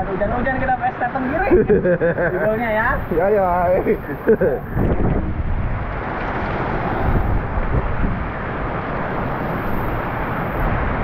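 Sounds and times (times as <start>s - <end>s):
driving rain: 0.0s - 11.0s
wind on the microphone: 0.0s - 11.0s
sea spray: 1.1s - 11.0s.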